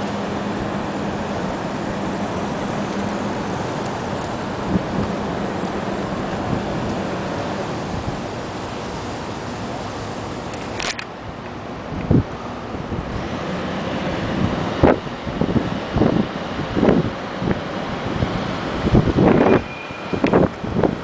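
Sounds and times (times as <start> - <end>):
demolition machine engine rumble: 0.0 - 21.0
street traffic: 0.0 - 21.0.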